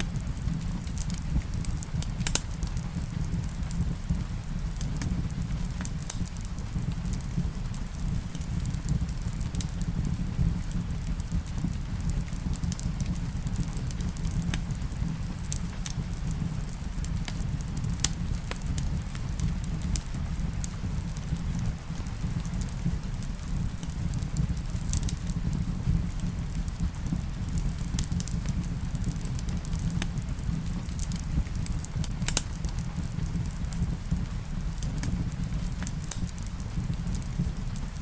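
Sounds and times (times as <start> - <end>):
fire rumbling: 0.0 - 38.0
rain: 0.0 - 38.0
wood fire crackling: 0.0 - 38.0.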